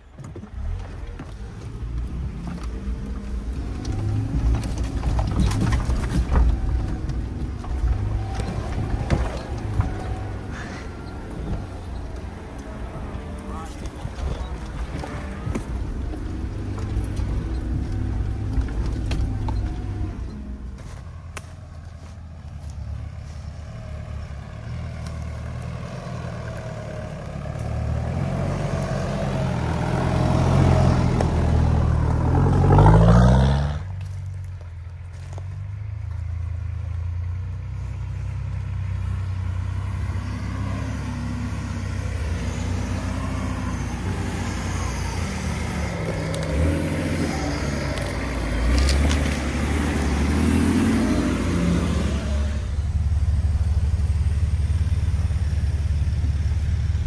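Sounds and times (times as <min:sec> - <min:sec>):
off-road engine revving: 0:00.0 - 0:57.0
off-road engine running steadily: 0:00.0 - 0:57.0.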